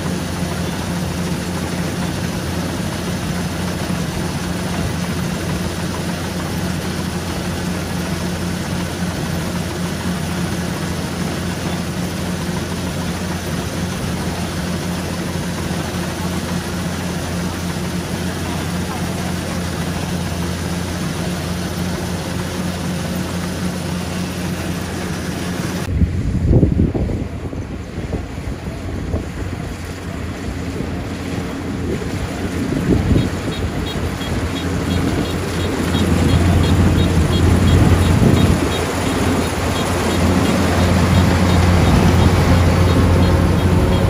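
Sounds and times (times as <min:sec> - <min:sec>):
broad rushing noise: 0:00.0 - 0:44.0
combine harvester running: 0:00.0 - 0:44.0.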